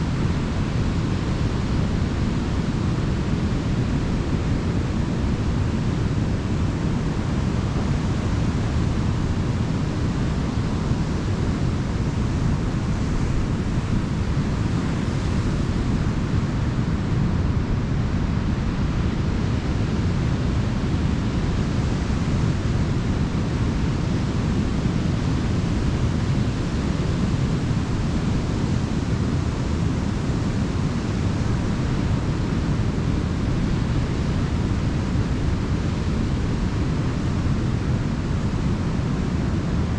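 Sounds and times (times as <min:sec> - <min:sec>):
ocean surf washing on beach: 0:00.0 - 0:39.9.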